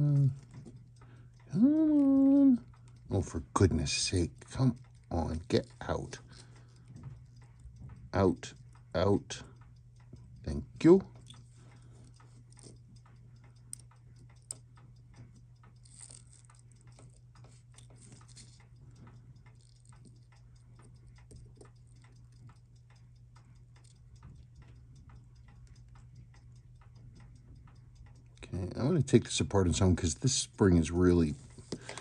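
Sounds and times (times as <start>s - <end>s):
metal tweezers ticking and clicking: 0.0s - 31.9s.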